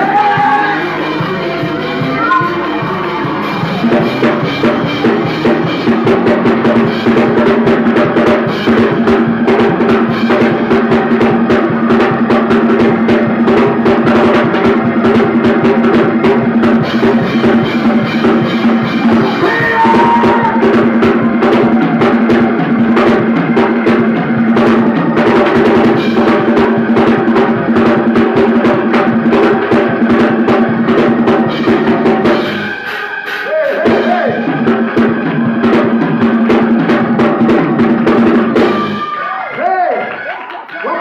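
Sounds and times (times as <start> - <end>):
drum kit fast beat: 0.0 - 39.2.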